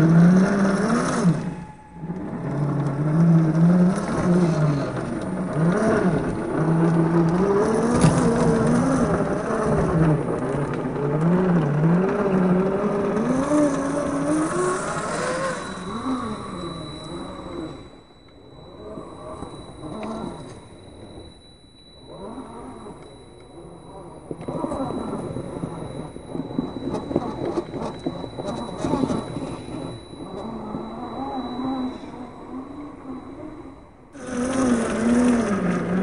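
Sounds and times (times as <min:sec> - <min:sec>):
rc car motor whine: 0:00.0 - 0:36.0.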